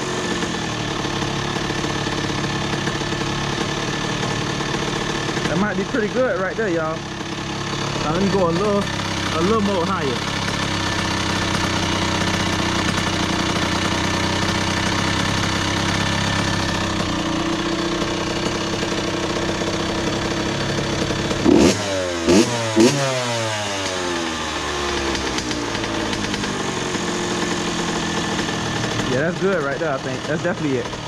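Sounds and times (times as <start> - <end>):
engine revving: 0.0 - 31.0
two-stroke engine idling: 0.0 - 31.0.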